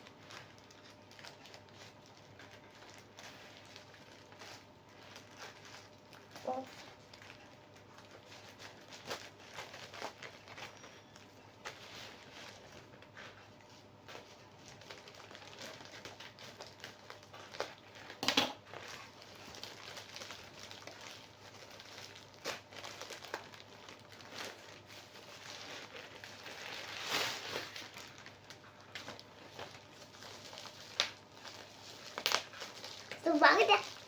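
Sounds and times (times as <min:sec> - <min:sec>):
packaging crinkling and rustling: 0:00.0 - 0:34.0.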